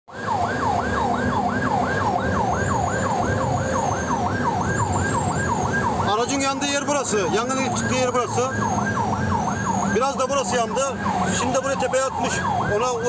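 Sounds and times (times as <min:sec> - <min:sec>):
siren yelping: 0:00.1 - 0:13.0
vehicle rumble on road: 0:00.1 - 0:13.0.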